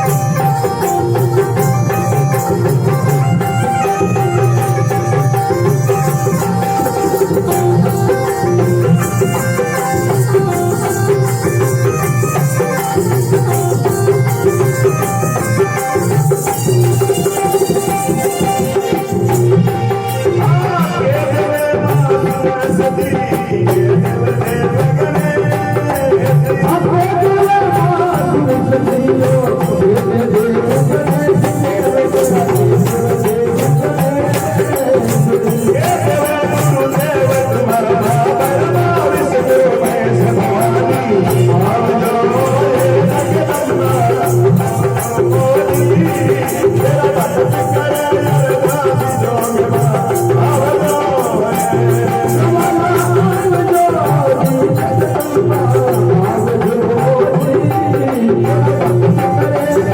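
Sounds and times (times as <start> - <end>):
keyboard melody: 0.0 - 59.9
rapid rattling percussion: 0.0 - 59.9
steady drum beat: 0.0 - 59.9.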